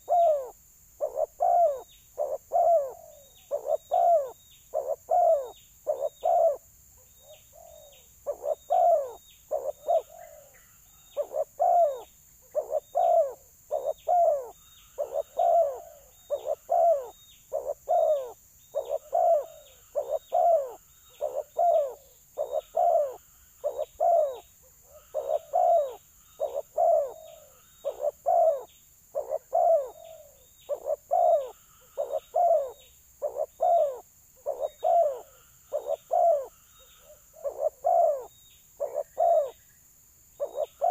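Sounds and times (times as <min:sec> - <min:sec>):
doves cooing: 0:00.0 - 0:39.6, 0:40.4 - 0:40.9.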